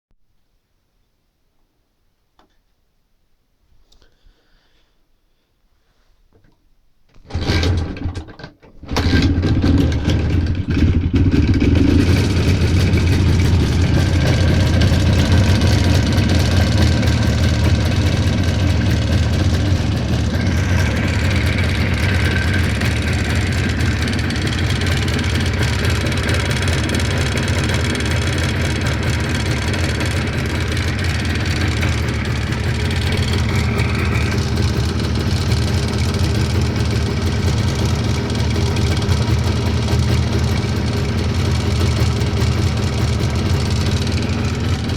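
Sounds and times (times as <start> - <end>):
motorcycle engine starting and idling: 7.2 - 44.9
engine knock: 7.3 - 44.9.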